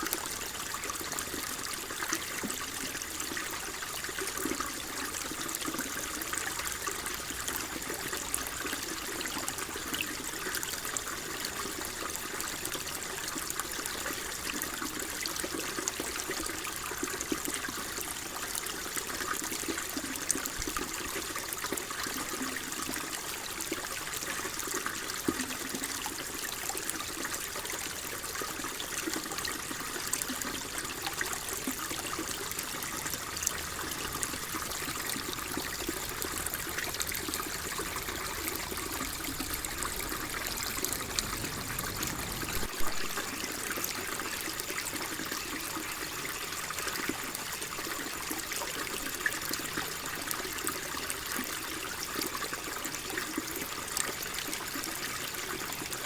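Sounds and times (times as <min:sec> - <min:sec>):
water flowing and trickling: 0:00.0 - 0:56.0.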